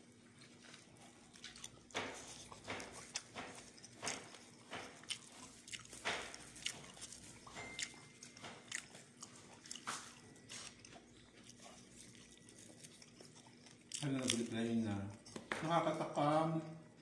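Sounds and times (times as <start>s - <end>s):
food crunching and rustling: 0.0s - 15.8s.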